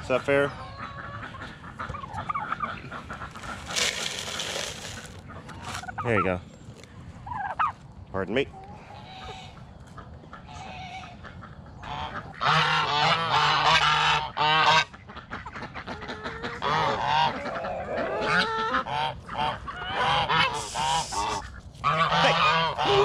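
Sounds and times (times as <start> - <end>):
geese honking: 0.0 - 6.4, 7.2 - 7.8, 8.6 - 23.0.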